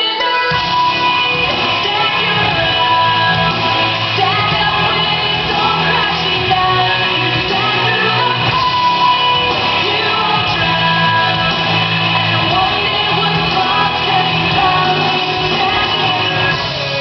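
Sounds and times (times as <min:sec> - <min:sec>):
pop-rock song with singer and guitar: 0:00.0 - 0:17.0.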